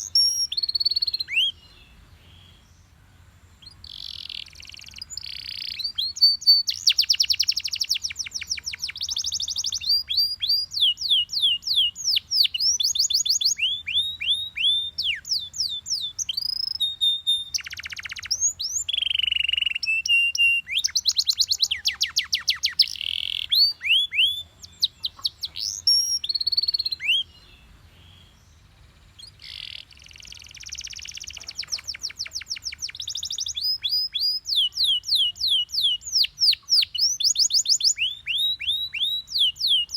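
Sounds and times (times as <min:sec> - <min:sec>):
canary singing trills: 0:00.0 - 0:02.9, 0:03.6 - 0:39.9.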